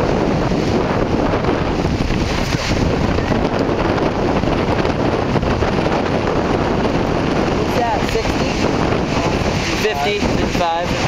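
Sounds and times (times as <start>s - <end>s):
strong wind on microphone: 0.0s - 11.0s.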